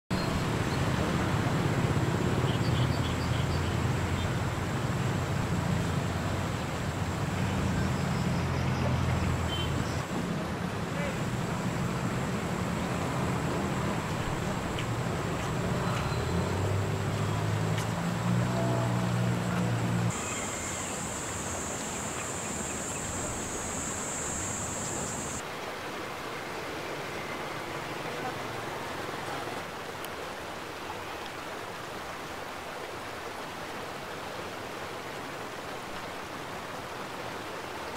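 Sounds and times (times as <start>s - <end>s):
rushing hiss of river ambience: 0.1s - 37.9s.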